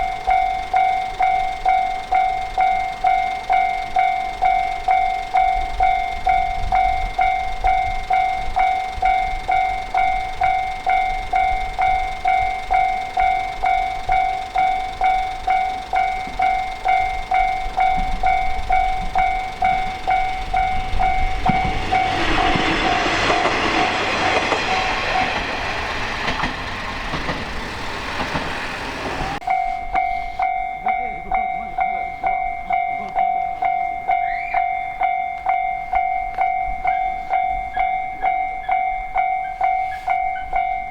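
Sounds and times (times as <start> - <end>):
level crossing warning bell: 0.0 - 40.9
passing train noise: 0.0 - 40.9.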